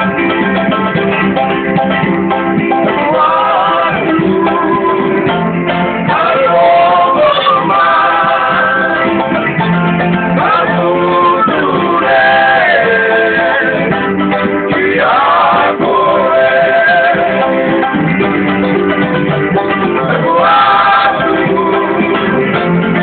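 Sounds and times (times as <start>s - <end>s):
strummed guitars and ukuleles: 0.0s - 23.0s
men singing: 2.6s - 18.3s, 19.6s - 23.0s.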